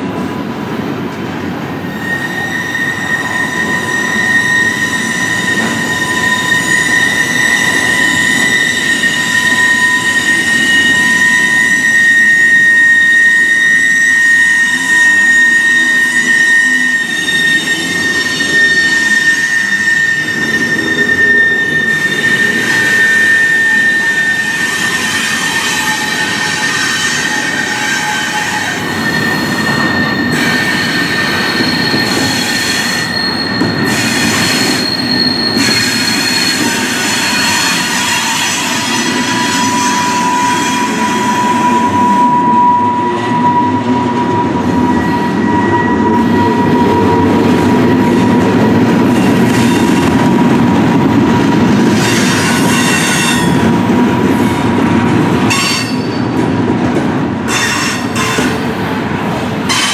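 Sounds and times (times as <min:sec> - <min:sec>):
freight train wheels rumbling: 0:00.0 - 0:59.9
high-pitched wheel squeal: 0:01.8 - 0:54.4, 0:55.4 - 0:56.4, 0:57.4 - 0:58.7.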